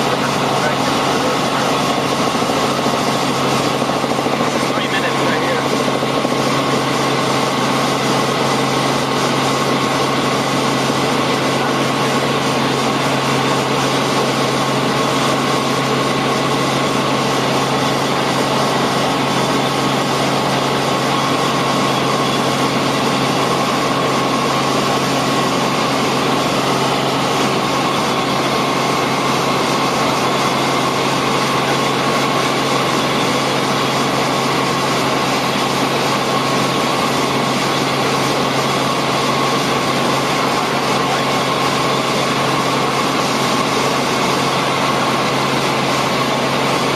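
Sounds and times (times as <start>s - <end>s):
helicopter engine and rotor drone: 0.0s - 46.9s
helicopter whine: 0.0s - 46.9s.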